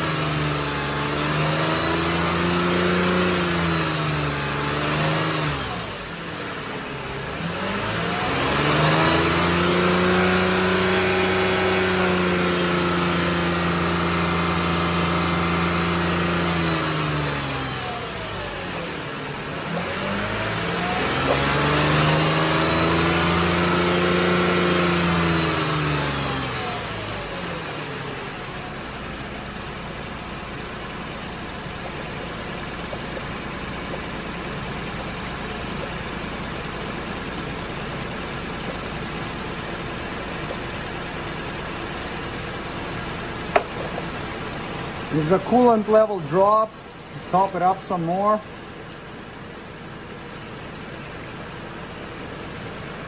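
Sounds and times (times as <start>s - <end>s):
car engine revving and idling: 0.0s - 53.0s.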